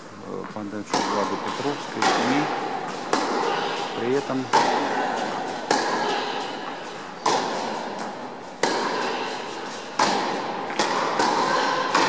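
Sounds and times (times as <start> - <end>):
tennis ball hit by rackets: 0.9 - 12.0.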